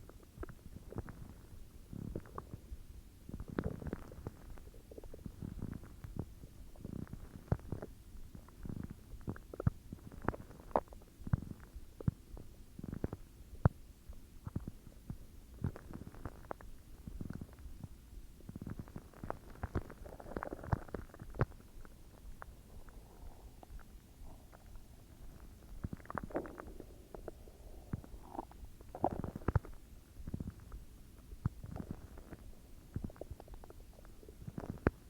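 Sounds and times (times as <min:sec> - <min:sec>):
stomach growling and gurgling: 0:00.0 - 0:13.8, 0:14.4 - 0:35.0.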